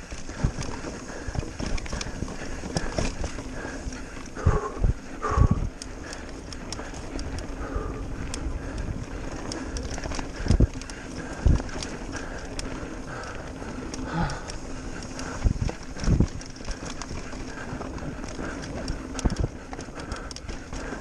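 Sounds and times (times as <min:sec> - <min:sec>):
bike rattling and ticking: 0:00.0 - 0:21.0
bike tyres rumbling over dirt: 0:00.0 - 0:21.0.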